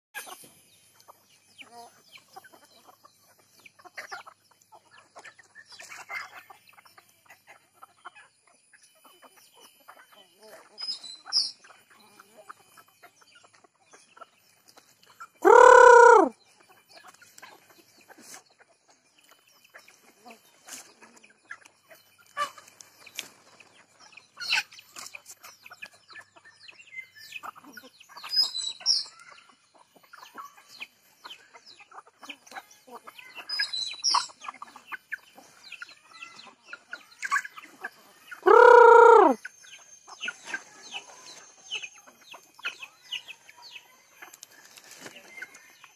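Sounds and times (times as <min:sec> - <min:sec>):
chickens clucking and calling: 0:00.2 - 0:45.9.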